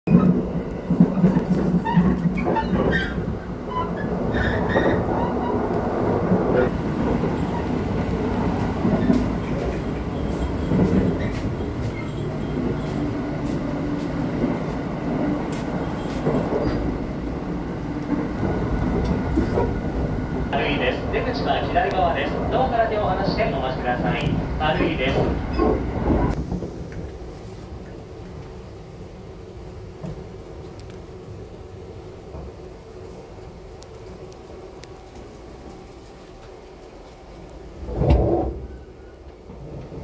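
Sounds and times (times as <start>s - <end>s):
train wheels rumbling on rails: 0.1s - 40.0s.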